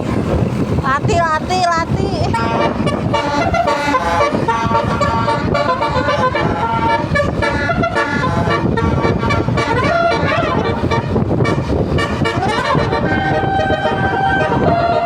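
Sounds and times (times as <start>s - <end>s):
low vehicle rumble: 0.0s - 15.0s
musical vehicle horn tune: 2.3s - 15.0s.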